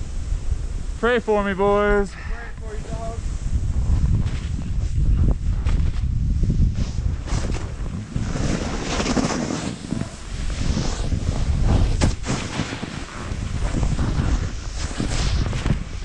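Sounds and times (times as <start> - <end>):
snowboards carving through snow: 0.0 - 16.0
wind buffeting microphone: 0.0 - 16.0.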